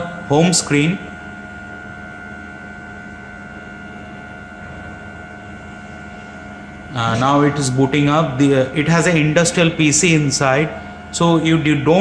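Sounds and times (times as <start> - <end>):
machine whirring hum: 0.0 - 12.0
thin constant whine: 0.0 - 12.0.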